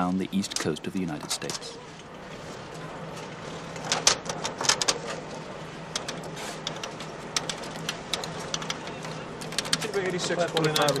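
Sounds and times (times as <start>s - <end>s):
low electrical hum: 0.0s - 11.0s
office machines clattering: 0.0s - 11.0s.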